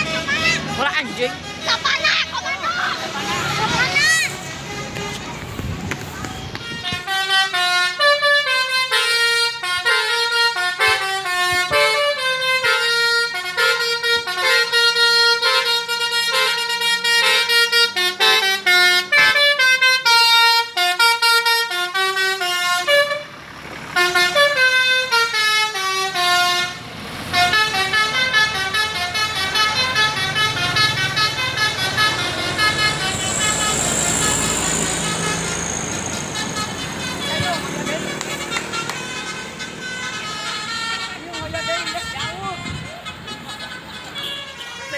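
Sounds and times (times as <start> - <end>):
multi-tone air horn tune: 6.4 - 23.4, 24.0 - 44.9.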